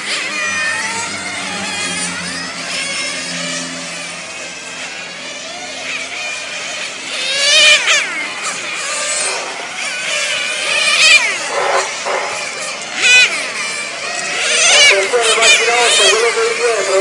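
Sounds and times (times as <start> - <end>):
rc car engines whining past: 0.0 - 17.0.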